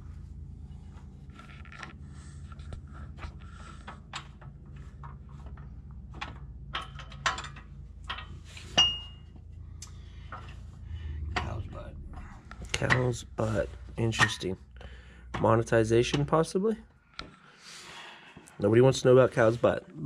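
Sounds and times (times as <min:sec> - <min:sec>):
low hum: 0:00.0 - 0:17.5.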